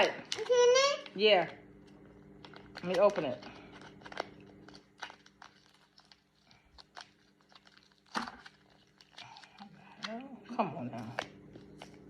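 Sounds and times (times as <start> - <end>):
plastic packaging clicks and crinkles: 0.0 - 10.2.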